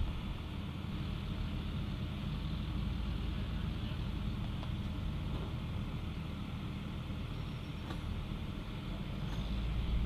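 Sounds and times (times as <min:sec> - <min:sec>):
diesel truck engines rumbling: 0:00.0 - 0:10.0.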